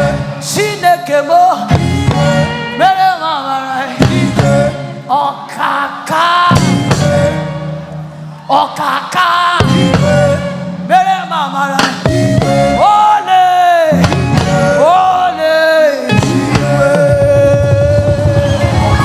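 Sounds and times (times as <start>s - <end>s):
gospel band playing: 0.0s - 19.0s
high lead voice singing: 0.0s - 19.0s.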